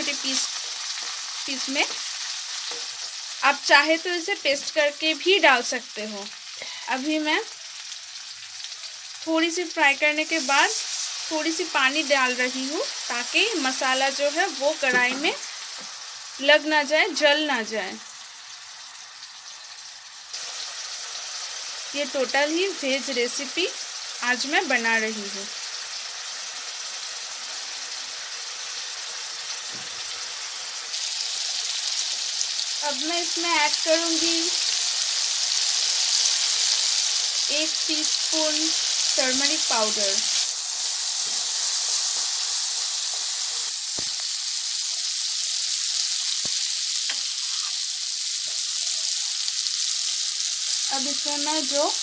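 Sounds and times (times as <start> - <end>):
sauce sizzling in oil: 0.0 - 52.0.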